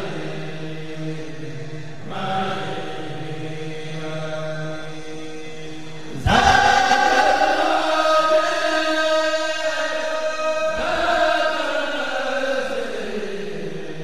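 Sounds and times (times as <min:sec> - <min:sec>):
male voices chanting: 0:00.0 - 0:14.0.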